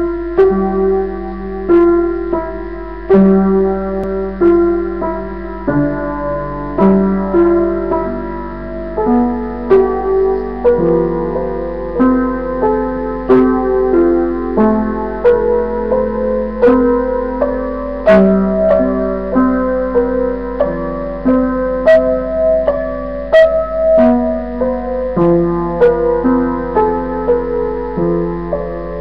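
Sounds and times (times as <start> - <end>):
upright piano played slowly: 0.0 - 29.0.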